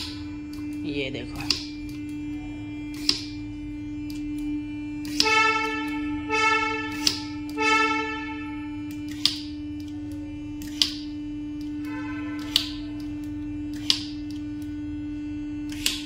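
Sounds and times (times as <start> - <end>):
steady electric hum: 0.0 - 16.0.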